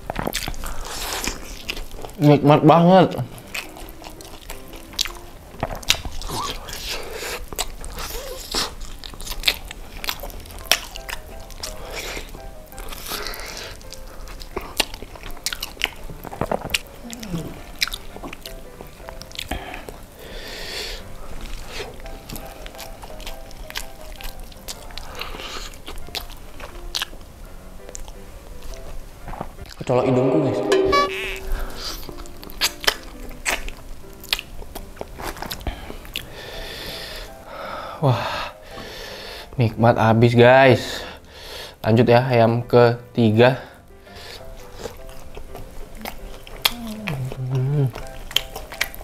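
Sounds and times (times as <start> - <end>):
crunchy chewing of fried chicken: 0.0 - 29.8, 31.6 - 42.1, 43.2 - 49.0.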